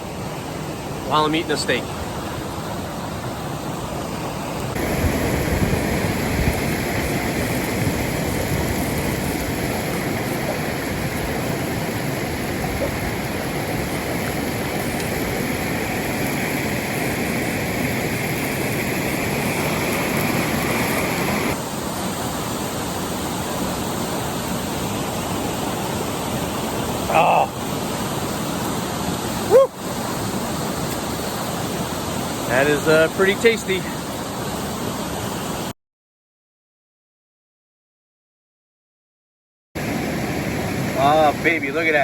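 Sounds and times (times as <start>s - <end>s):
waterfall rushing: 0.0s - 35.5s, 39.8s - 42.0s.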